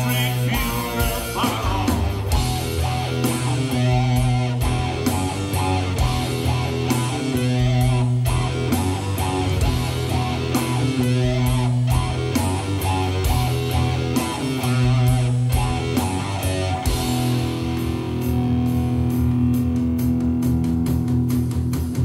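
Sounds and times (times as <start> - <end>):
bass guitar: 0.0 - 22.0
drums and cymbal hits: 0.0 - 22.0
electric guitar riff: 0.0 - 22.0.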